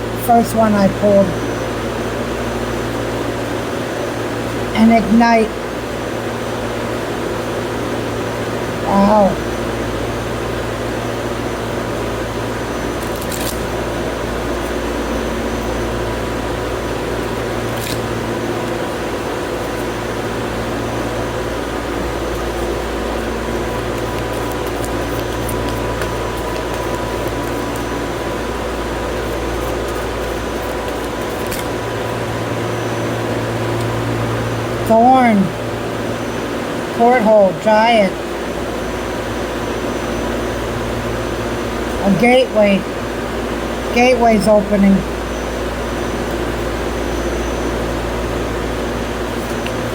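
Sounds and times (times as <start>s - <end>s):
air conditioning hum: 0.0s - 49.9s.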